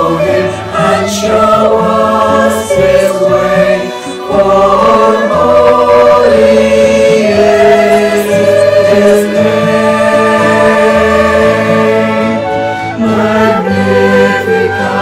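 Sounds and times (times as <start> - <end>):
choir singing a hymn: 0.0 - 15.0
instrumental accompaniment: 0.0 - 15.0.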